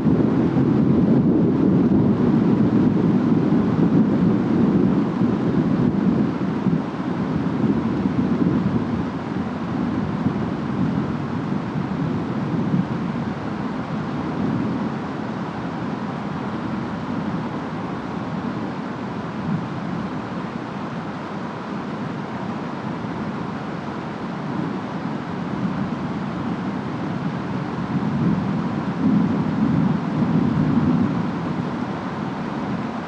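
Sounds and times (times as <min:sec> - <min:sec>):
rain and wind hiss: 0:00.0 - 0:33.0.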